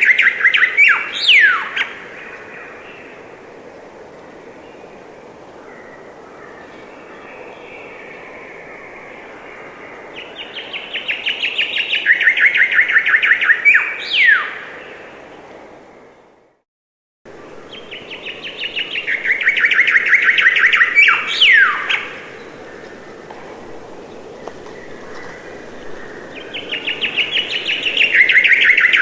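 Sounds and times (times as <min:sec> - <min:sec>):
songbird singing: 0:00.0 - 0:16.6, 0:17.3 - 0:29.0.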